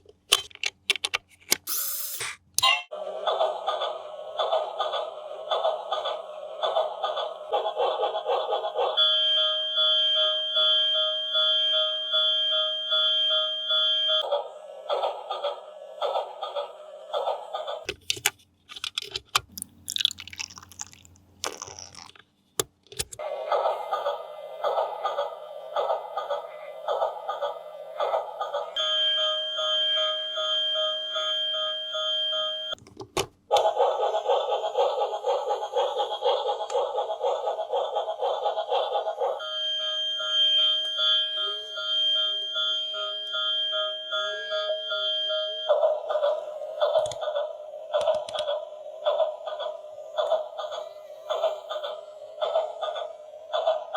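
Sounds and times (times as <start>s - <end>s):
toy electronic siren pulsing: 3.3s - 17.9s, 23.2s - 32.8s, 33.5s - 53.9s.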